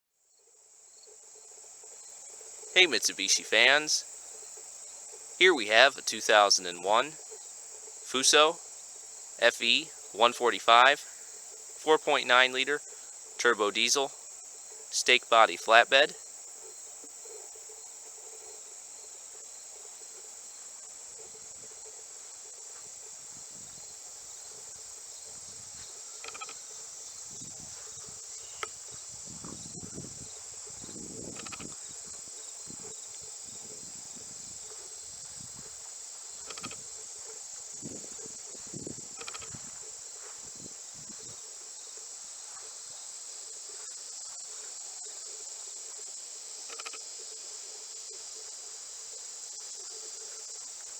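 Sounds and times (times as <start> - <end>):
insects chirring: 0.3 - 50.9.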